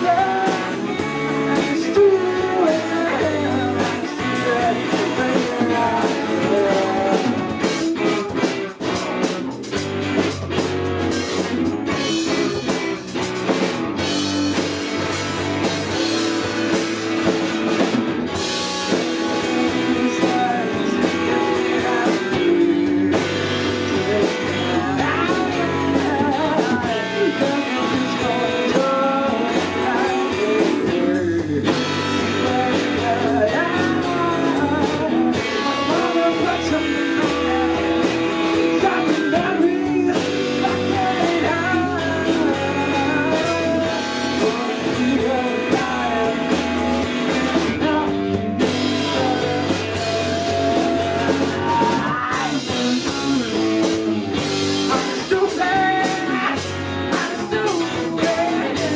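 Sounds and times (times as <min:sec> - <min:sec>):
person singing: 0:00.0 - 0:09.0, 0:14.0 - 0:58.9
drum kit: 0:00.0 - 0:58.9
electric guitar: 0:00.0 - 0:58.9.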